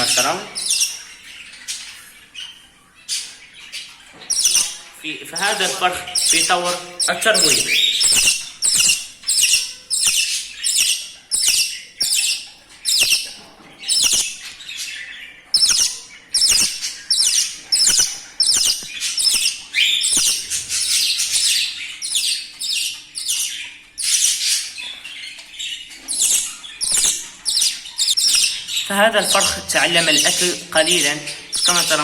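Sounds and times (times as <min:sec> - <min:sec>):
bird chick begging calls: 0:00.0 - 0:01.1, 0:04.3 - 0:14.5, 0:15.5 - 0:24.4, 0:26.1 - 0:32.0.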